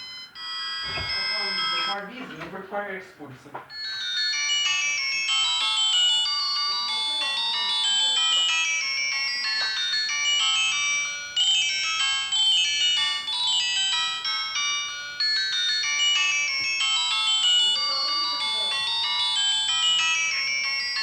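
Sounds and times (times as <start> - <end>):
mobile phone ringtone melody: 0.0 - 2.2, 3.7 - 21.0.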